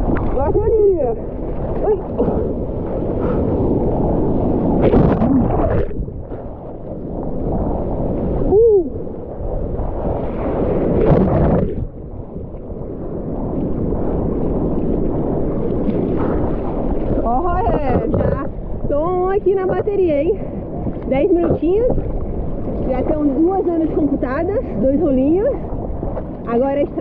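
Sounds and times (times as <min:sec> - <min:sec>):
water gurgling over lens: 0:00.0 - 0:27.0
wind on microphone: 0:00.0 - 0:27.0.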